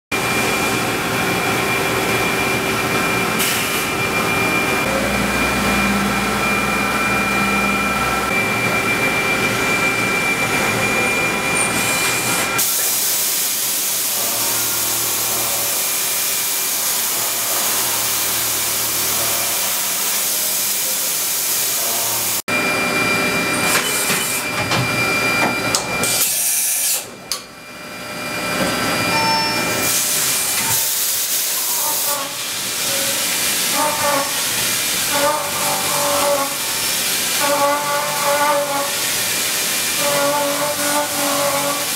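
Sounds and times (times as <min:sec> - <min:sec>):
milling machine hiss and whine: 0:00.2 - 0:41.9.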